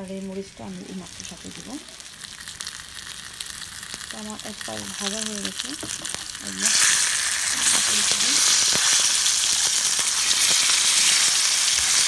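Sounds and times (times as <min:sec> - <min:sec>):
fish sizzling in hot oil: 0:00.7 - 0:12.0.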